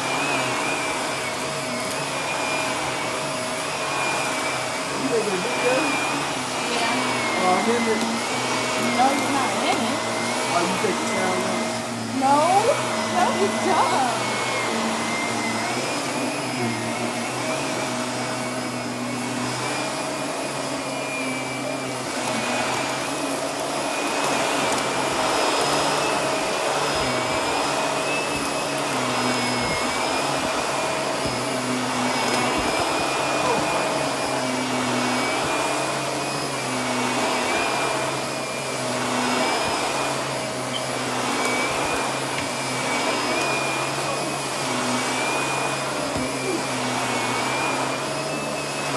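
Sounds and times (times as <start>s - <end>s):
vacuum cleaner motor whine: 0.0s - 48.9s.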